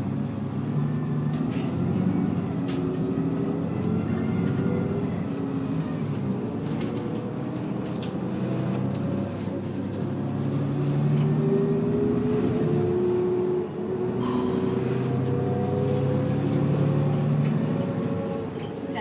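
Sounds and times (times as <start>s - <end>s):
bus engine humming: 0.0s - 19.0s.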